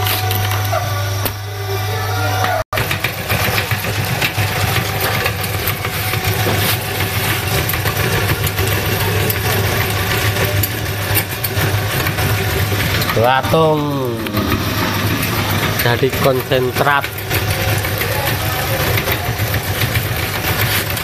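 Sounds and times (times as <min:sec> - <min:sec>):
meat grinder humming and rattling: 0:00.0 - 0:21.0.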